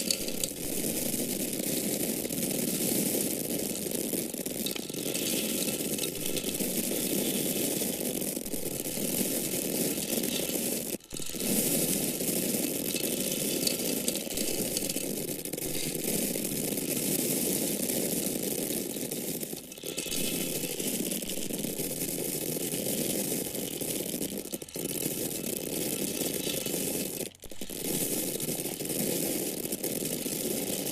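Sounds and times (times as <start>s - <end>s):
corn kernels pouring: 0.0s - 30.9s.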